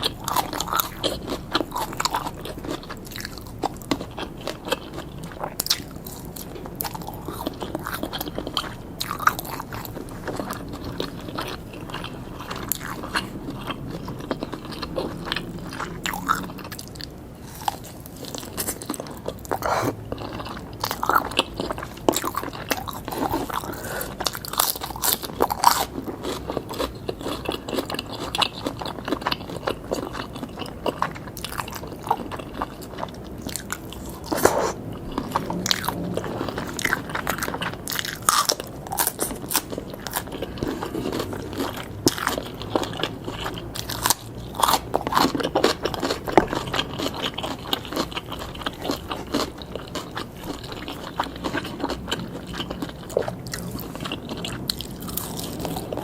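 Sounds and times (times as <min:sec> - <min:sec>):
biting and chewing crunches: 0:00.0 - 0:56.0.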